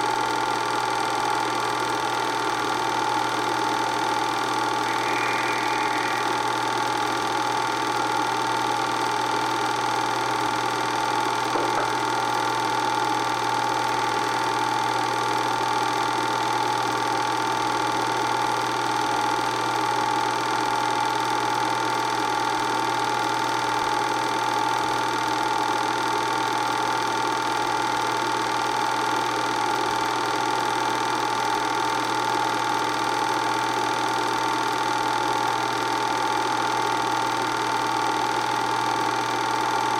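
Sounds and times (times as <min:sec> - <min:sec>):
movie projector whirring: 0:00.0 - 0:39.9.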